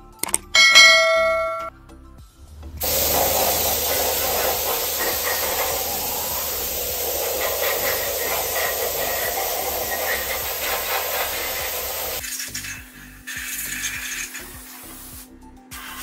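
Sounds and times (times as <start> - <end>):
pressure washer spray hiss: 2.8 - 16.0.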